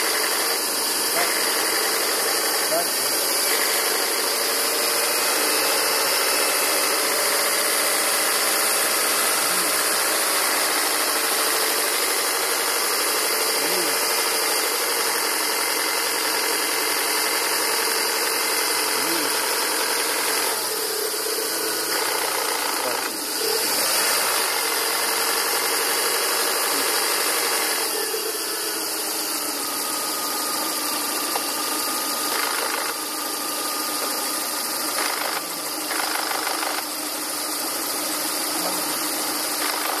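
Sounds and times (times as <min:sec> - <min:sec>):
car engine idling with rasping: 0:00.0 - 0:40.0.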